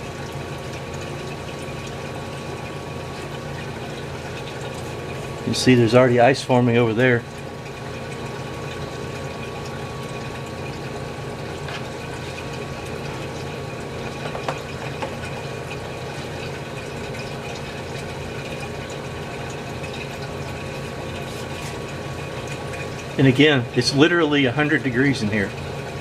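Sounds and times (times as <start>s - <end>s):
refrigerator compressor humming: 0.0s - 26.0s.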